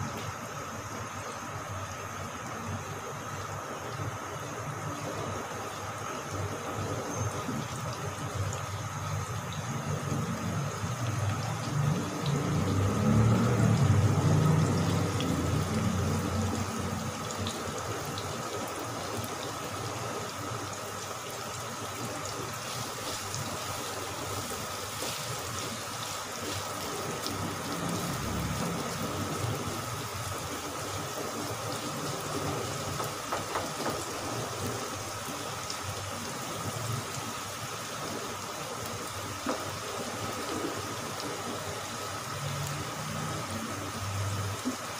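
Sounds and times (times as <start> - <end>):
onions sizzling in hot oil: 0.0 - 44.9.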